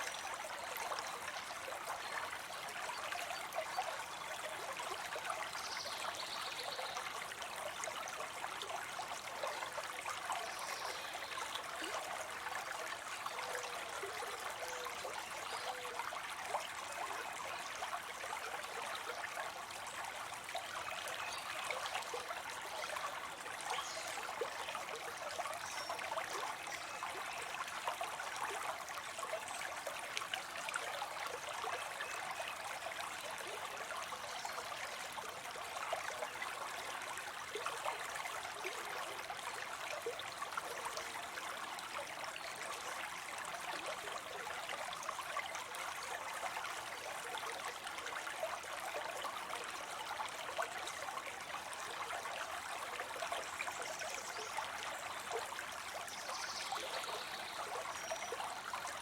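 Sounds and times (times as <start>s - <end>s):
water trickling into a pond: 0.0s - 59.0s.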